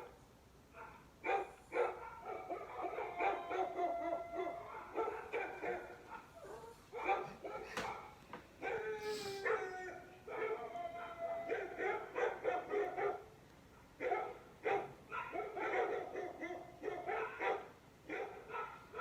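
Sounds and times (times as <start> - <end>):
dog barking and whining: 0.8 - 13.3, 14.0 - 19.0.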